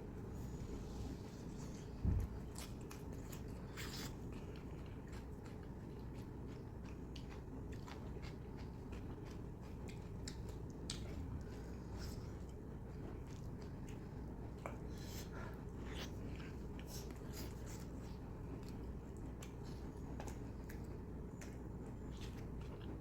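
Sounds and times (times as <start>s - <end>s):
chewing and biting food: 1.4s - 23.0s.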